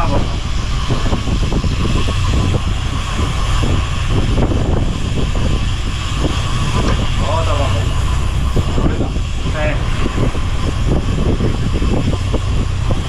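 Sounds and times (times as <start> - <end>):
boat engine humming: 0.0 - 13.0
rushing water noise: 0.0 - 13.0.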